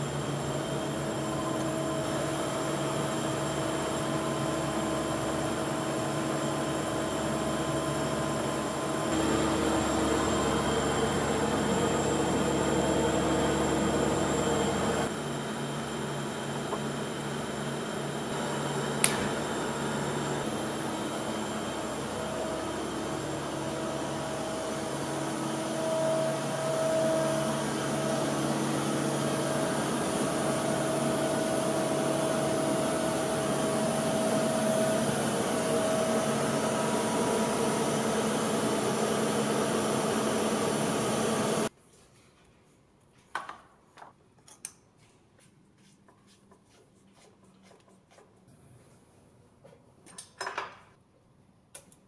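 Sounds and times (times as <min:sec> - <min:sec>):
lathe mechanical hum: 0:00.0 - 0:41.7.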